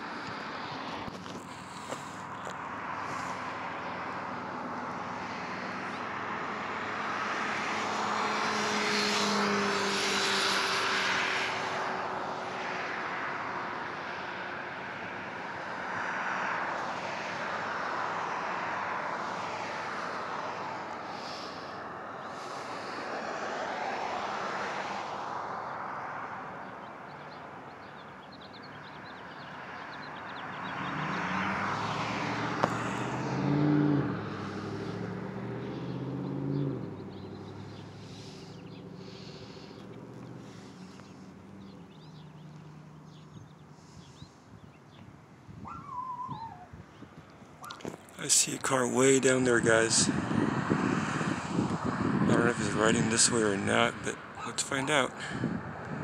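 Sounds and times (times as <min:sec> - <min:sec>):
aircraft engine rush: 0:00.0 - 0:56.0.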